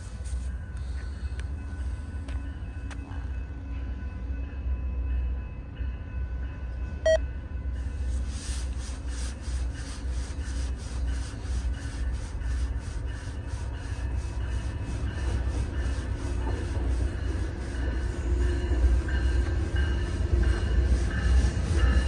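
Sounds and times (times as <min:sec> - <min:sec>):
crossing warning bell ringing: 0:00.6 - 0:08.0, 0:10.5 - 0:22.0.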